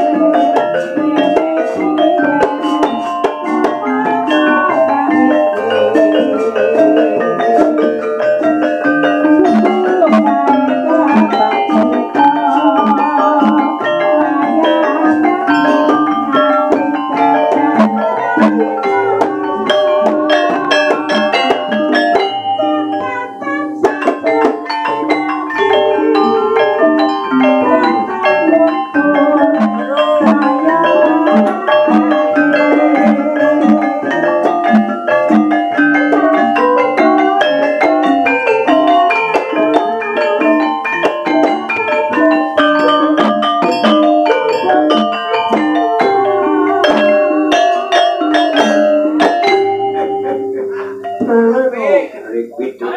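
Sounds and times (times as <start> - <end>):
drum: 0.0 - 51.6
gongs ringing: 0.0 - 51.8
metallophones struck with mallets: 0.0 - 51.8.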